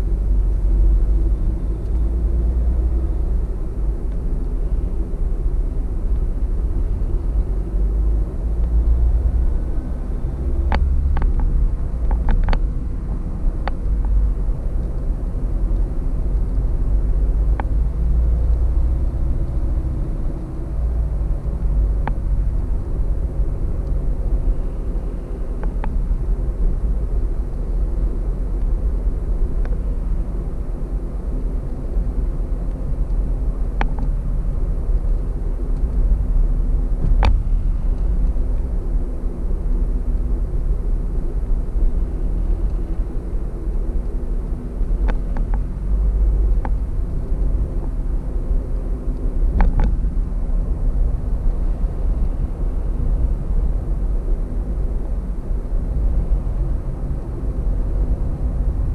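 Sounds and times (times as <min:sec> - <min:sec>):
car road noise rumble: 0:00.0 - 0:58.9.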